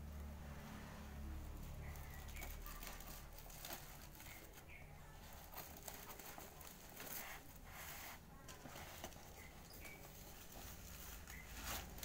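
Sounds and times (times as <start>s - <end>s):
bubble wrap and cardboard crinkling: 1.3s - 12.0s.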